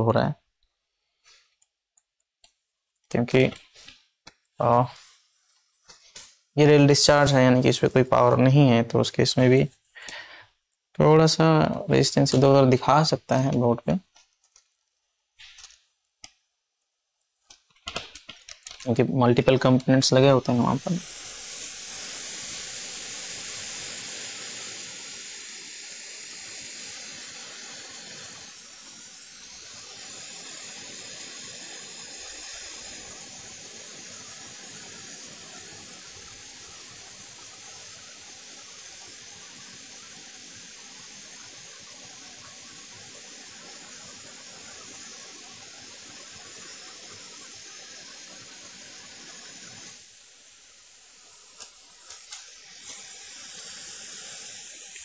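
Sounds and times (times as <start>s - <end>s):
hot air hissing: 1.0s - 1.7s, 3.1s - 16.4s, 17.5s - 55.0s.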